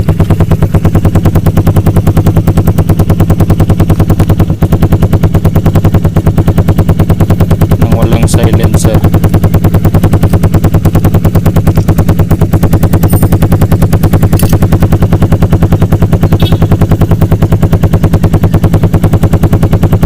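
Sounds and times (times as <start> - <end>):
motorcycle engine idling popping: 0.0 - 20.0.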